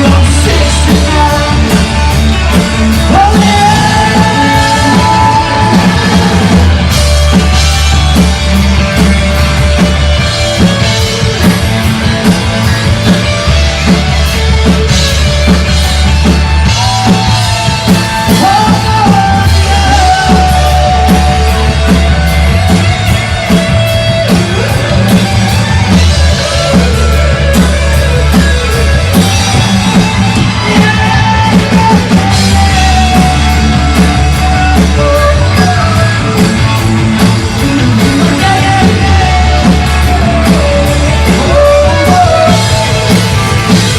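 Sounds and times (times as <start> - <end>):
bass guitar: 0.0 - 43.9
drum kit: 0.0 - 43.9
electric guitar: 0.0 - 43.9.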